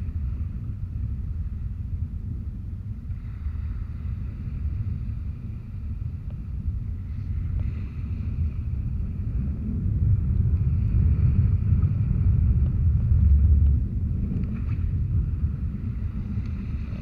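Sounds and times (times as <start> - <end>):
small waves: 0.0 - 17.0
wind buffeting microphone: 0.0 - 17.0.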